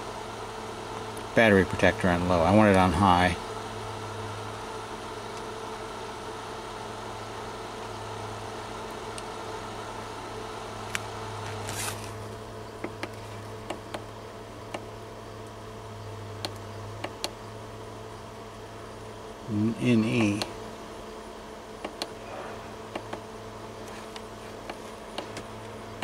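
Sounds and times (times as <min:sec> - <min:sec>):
fridge compressor humming: 0:00.0 - 0:26.0.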